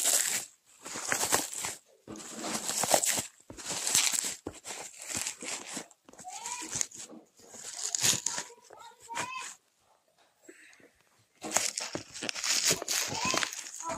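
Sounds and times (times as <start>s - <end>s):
bubble wrap crinkling: 0.0s - 9.6s, 11.3s - 13.9s.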